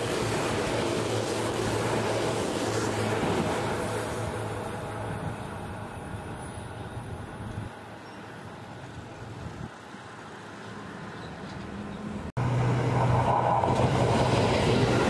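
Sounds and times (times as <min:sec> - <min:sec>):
distant train rumble: 0:00.0 - 0:15.0
loud train rumble with hum: 0:00.0 - 0:15.0.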